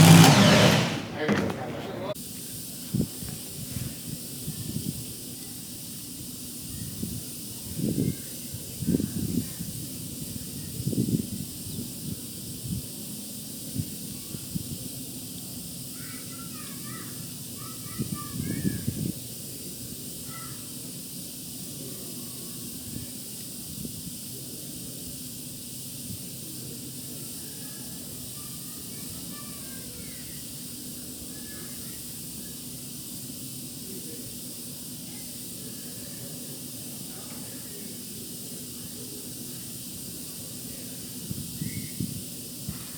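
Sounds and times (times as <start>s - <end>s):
outdoor hiss: 0.0s - 42.9s.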